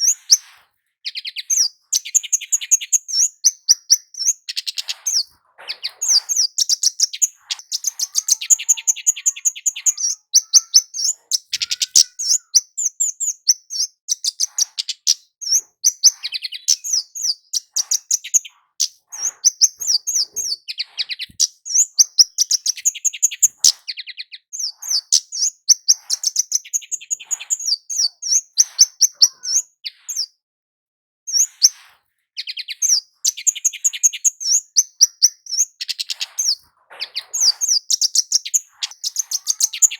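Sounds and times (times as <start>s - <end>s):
bird singing high chirps: 0.0s - 30.4s, 31.3s - 31.8s, 32.4s - 39.9s.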